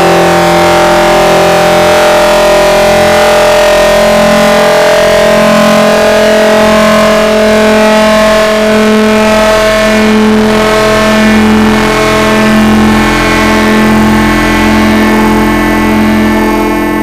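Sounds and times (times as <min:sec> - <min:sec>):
droning fart buzz: 0:00.0 - 0:17.0.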